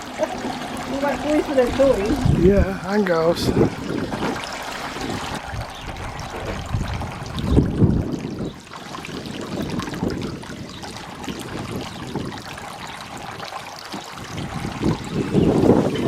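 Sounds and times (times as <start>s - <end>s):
water trickling and splashing: 0.0s - 16.0s
wind buffeting microphone: 0.0s - 16.0s.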